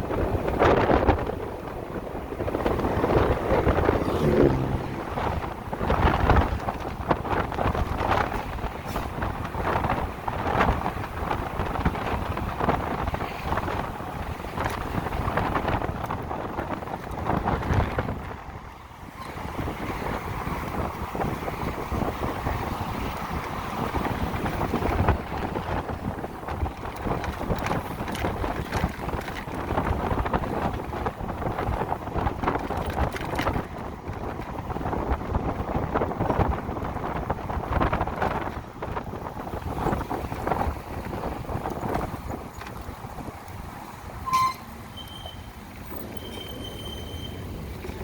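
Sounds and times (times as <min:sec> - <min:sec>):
road noise: 0:00.0 - 0:48.0
wind buffeting microphone: 0:00.0 - 0:48.0.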